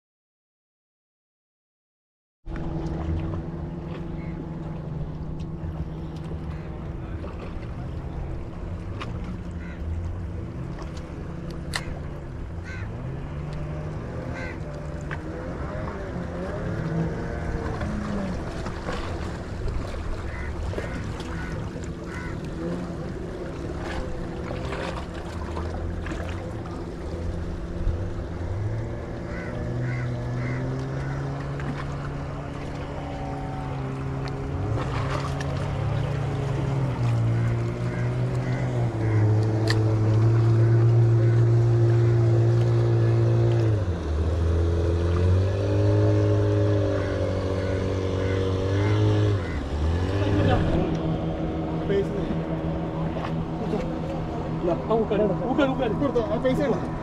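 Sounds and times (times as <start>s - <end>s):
boat engine humming: 2.4s - 57.0s
water noise: 2.4s - 57.0s
wind: 2.4s - 57.0s.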